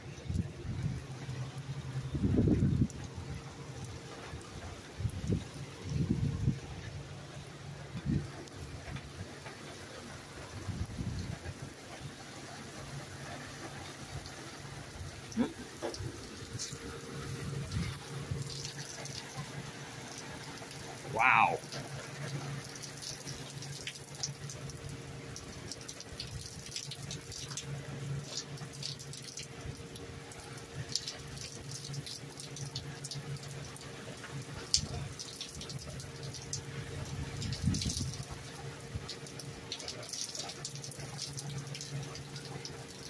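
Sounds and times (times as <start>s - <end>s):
water splashing and dripping: 0.0s - 43.0s
sharp ticks of raindrops: 0.1s - 43.0s
heavy rain on pavement: 0.2s - 43.0s.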